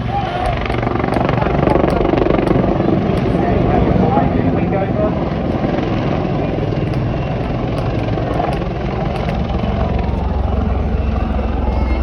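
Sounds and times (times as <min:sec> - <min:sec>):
helicopter rotors and engines: 0:00.0 - 0:12.0.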